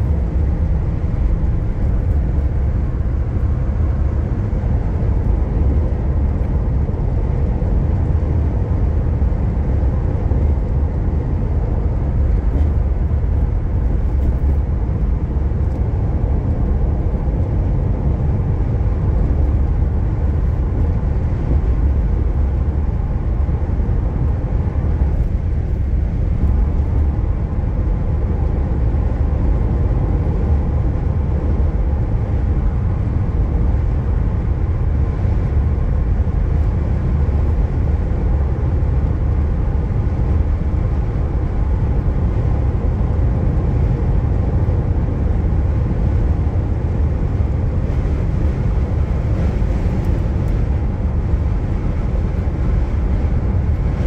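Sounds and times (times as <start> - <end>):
car cabin road noise: 0.0 - 54.0.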